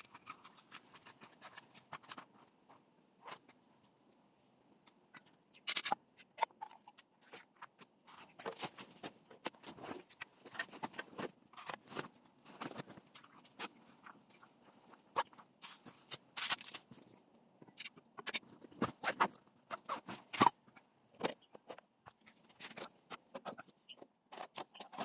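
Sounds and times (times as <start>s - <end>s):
objects being handled: 0.0s - 25.0s.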